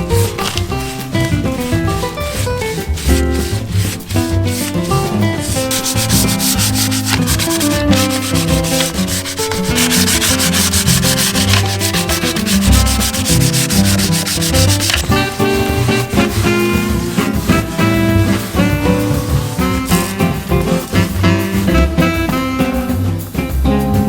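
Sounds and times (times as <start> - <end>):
sandpaper rubbing wood: 0.0 - 22.3
guitar music: 0.0 - 24.0.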